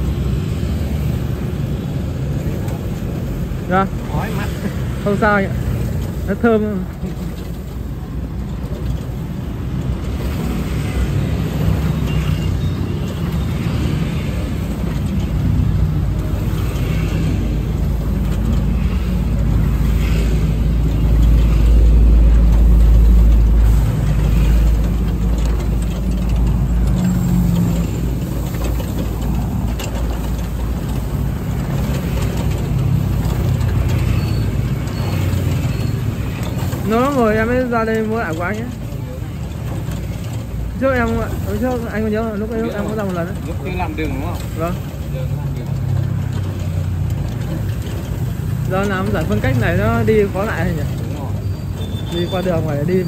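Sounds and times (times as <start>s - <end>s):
street traffic rumble: 0.0s - 53.0s
vehicle passing by: 0.0s - 53.0s.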